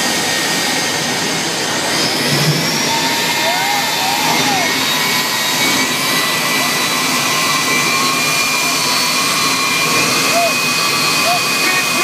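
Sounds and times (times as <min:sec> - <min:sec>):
turbine engine roaring and whining: 0:00.0 - 0:12.0.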